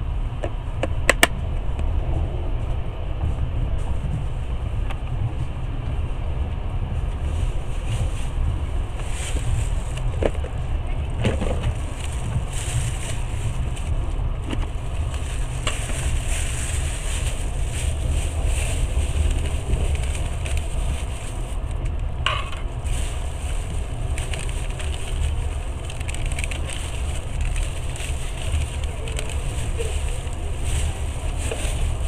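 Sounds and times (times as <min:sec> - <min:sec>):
train rumble inside carriage: 0:00.0 - 0:32.0.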